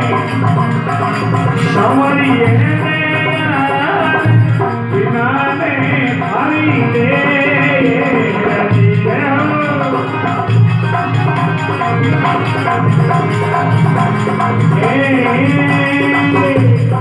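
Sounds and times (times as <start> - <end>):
folk music with drum and jingles: 0.0 - 17.0.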